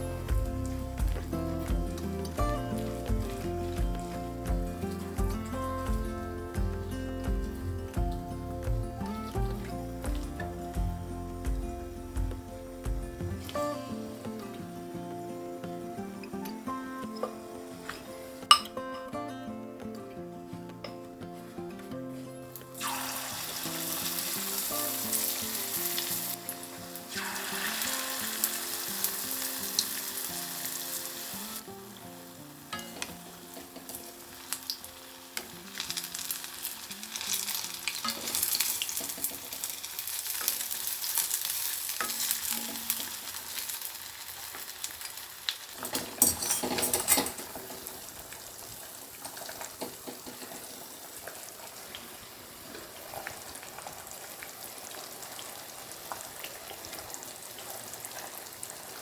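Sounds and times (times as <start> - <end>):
food sizzling in a pan: 0.0 - 19.7, 20.5 - 59.0
soft background music: 0.0 - 43.8, 45.8 - 49.7.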